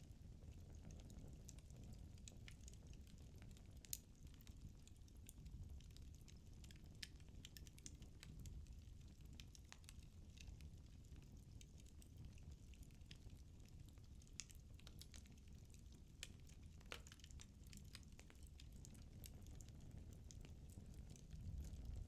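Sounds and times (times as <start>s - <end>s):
low rumble of flames: 0.0s - 22.0s
firewood crackling and popping: 0.1s - 22.0s.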